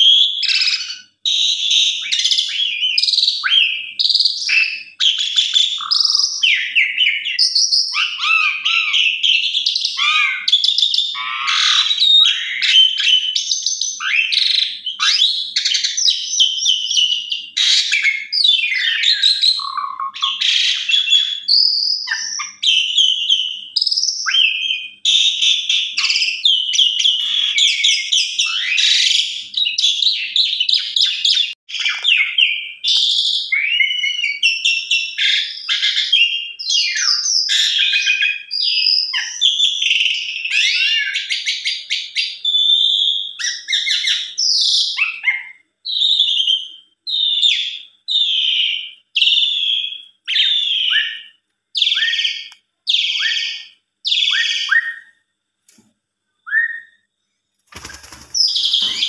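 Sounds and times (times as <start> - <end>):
starling singing: 0.0 - 55.2, 57.7 - 59.0.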